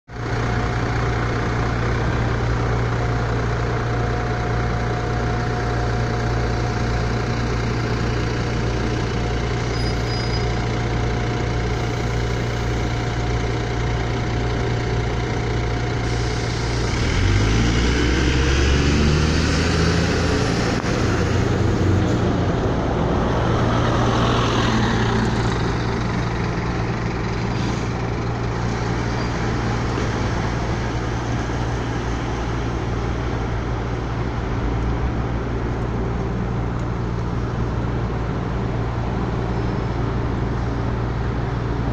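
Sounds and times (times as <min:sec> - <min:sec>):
bus diesel engine: 0:00.1 - 0:41.9.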